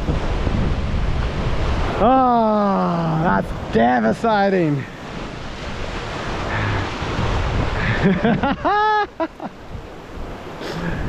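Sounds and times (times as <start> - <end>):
ocean surf breaking over rocks: 0.0 - 11.0.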